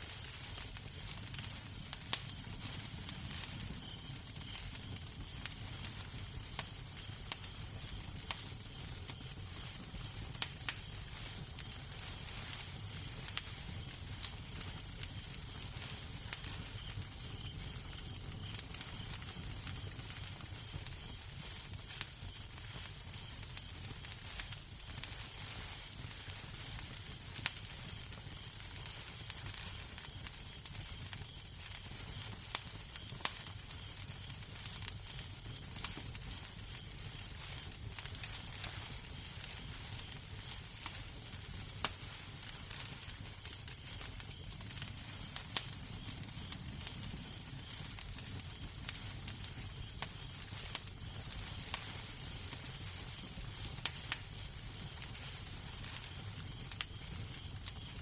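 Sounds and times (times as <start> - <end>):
fire crackling and popping: 0.0 - 58.0
fire hissing and rumbling: 0.0 - 58.0.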